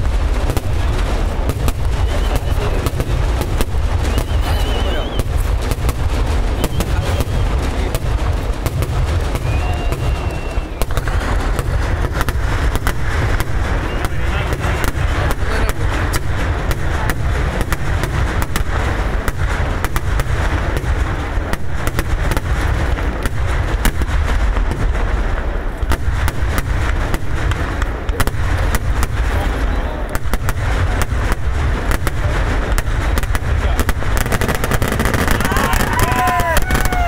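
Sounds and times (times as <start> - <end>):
deep rumble: 0.0 - 37.0
rapid firecracker blasts: 0.0 - 37.0.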